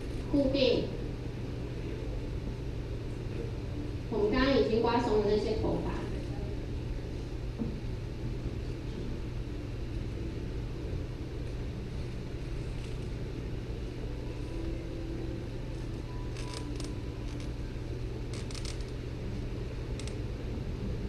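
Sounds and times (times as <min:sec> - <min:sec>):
sound system hum: 0:00.0 - 0:21.0.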